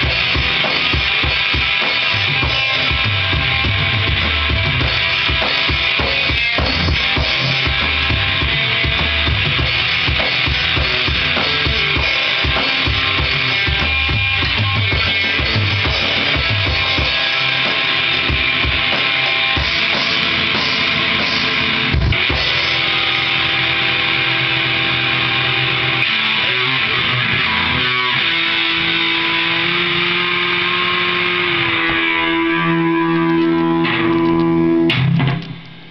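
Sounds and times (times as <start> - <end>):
drum kit beat: 0.0 - 35.9
electric guitar: 0.0 - 35.9.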